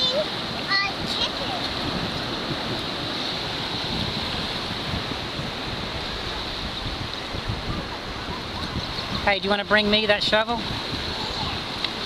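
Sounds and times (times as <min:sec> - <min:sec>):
small waves washing onto beach: 0:00.0 - 0:12.0
wind on microphone: 0:00.0 - 0:12.0.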